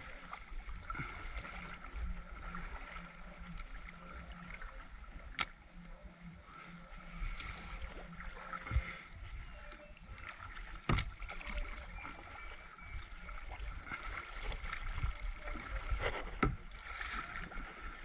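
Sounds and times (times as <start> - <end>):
kayak paddle pulling through water: 0.0 - 18.0.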